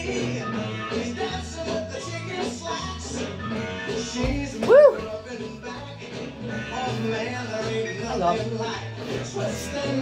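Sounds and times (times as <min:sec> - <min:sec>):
oldie song from smart speaker: 0:00.0 - 0:10.0.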